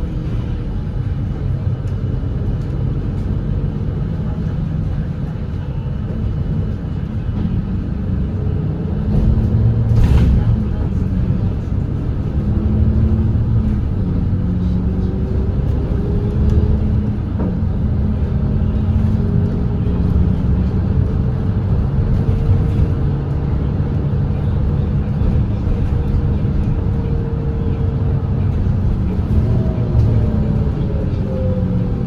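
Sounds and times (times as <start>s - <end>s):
bus diesel engine running: 0.0s - 32.0s
low road rumble: 0.0s - 32.0s.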